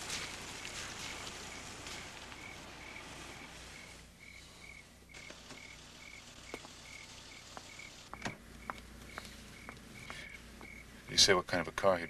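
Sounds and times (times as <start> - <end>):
cricket chirping: 0.0 - 11.1
faint night hiss: 0.0 - 12.0.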